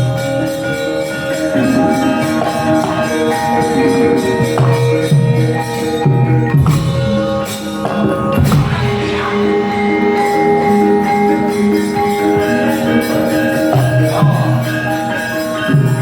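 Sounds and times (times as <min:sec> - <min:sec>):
gamelan metallophones and gongs: 0:00.0 - 0:16.0
sharp strikes: 0:01.6 - 0:14.6.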